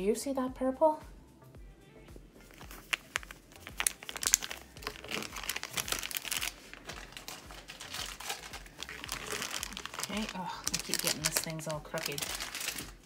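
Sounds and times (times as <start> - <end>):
plastic packaging crinkling: 2.5 - 13.0.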